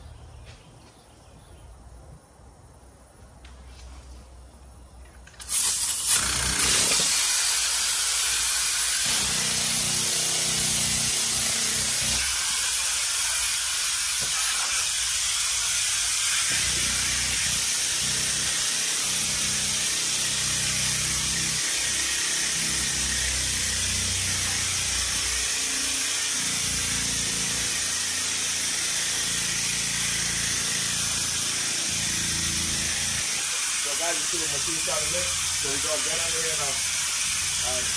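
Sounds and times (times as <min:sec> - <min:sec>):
compressed air hiss: 0:05.4 - 0:17.8, 0:18.5 - 0:37.9.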